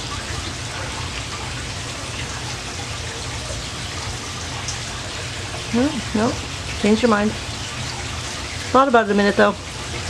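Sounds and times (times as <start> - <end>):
low steady hum: 0.0 - 10.0
water splashing into pool: 0.0 - 10.0.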